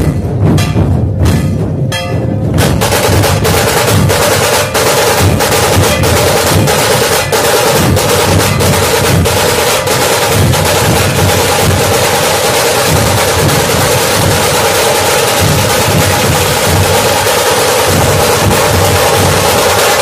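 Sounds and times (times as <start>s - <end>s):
dhol drums beating: 0.0s - 20.0s
tasha drum strokes: 0.0s - 20.0s.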